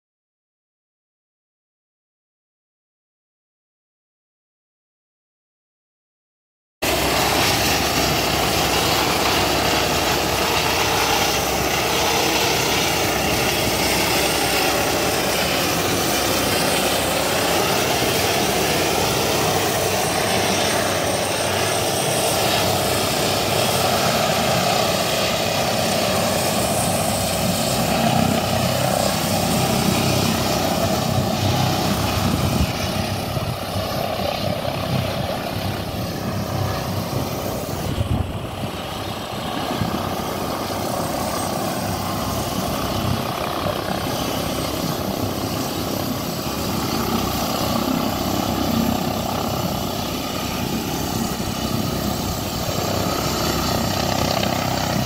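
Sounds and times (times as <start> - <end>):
helicopter rotor and turbine: 6.8 - 55.0.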